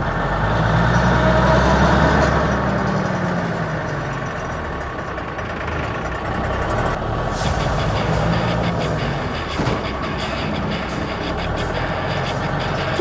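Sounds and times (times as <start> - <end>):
truck diesel engine humming: 0.0 - 13.0.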